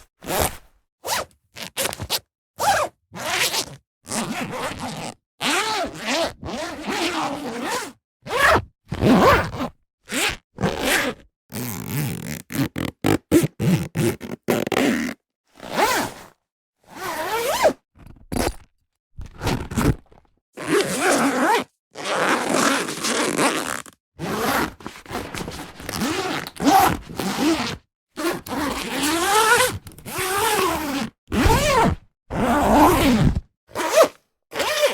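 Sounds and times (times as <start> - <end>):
zippers zipping: 0.2 - 16.4, 17.0 - 18.6, 19.2 - 34.9.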